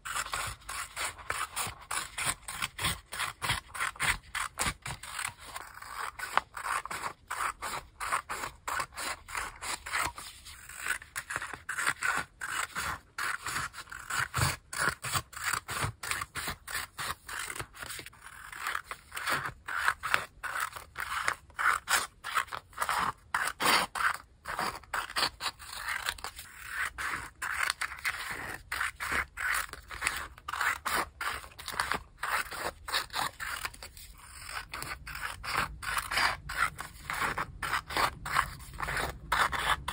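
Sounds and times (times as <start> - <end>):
scissors snipping paper: 0.0 - 39.9.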